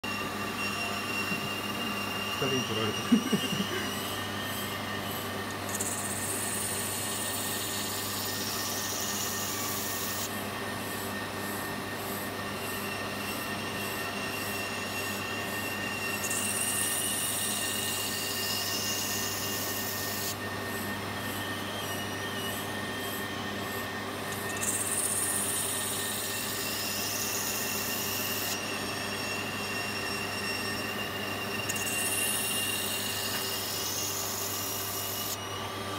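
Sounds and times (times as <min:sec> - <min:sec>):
glass grinding high whine: 0:00.0 - 0:35.9
spinning cutting wheel hum: 0:00.0 - 0:35.9.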